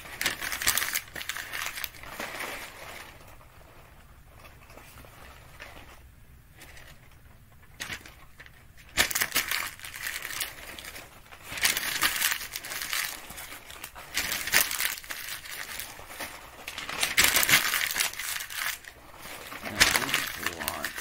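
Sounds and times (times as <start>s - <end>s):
paper being crumpled: 0.0s - 21.0s.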